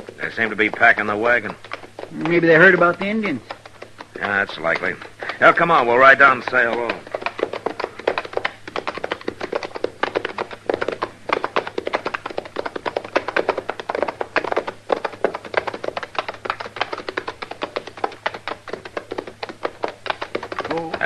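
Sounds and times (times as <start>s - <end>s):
horse hoofbeats clattering: 0.0s - 21.0s.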